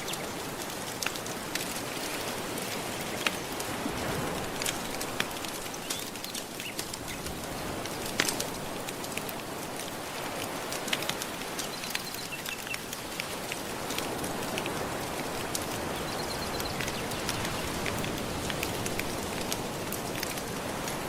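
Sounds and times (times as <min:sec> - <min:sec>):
gentle ocean waves: 0:00.0 - 0:21.0
wood fire crackling: 0:00.0 - 0:21.0.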